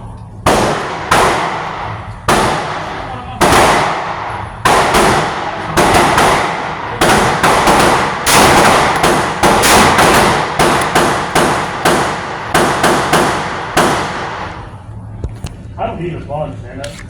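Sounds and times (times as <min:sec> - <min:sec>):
pistol shots with echo: 0:00.4 - 0:14.7.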